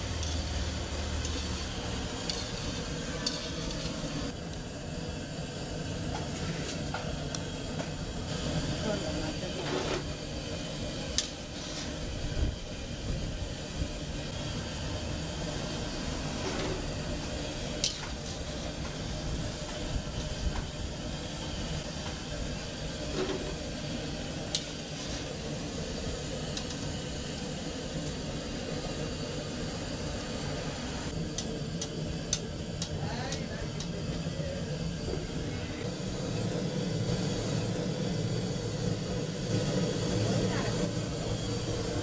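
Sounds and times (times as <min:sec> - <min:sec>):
gas burner hissing: 0:00.0 - 0:42.0
oil frying: 0:00.0 - 0:42.0.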